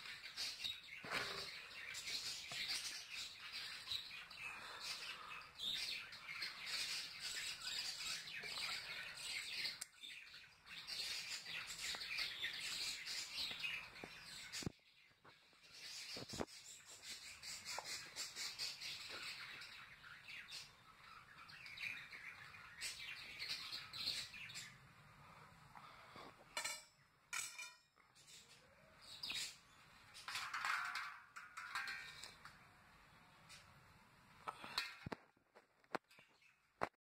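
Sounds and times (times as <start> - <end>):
small birds chirping: 0.0 - 35.2, 35.9 - 36.9.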